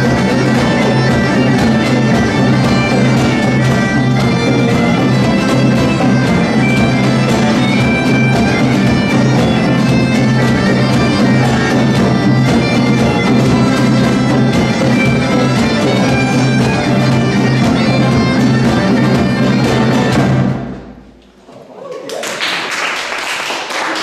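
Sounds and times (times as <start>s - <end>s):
strummed acoustic guitars: 0.0s - 20.7s
bagpipe drone: 0.0s - 20.8s
hand drum: 0.0s - 20.8s
crowd noise: 0.0s - 24.0s.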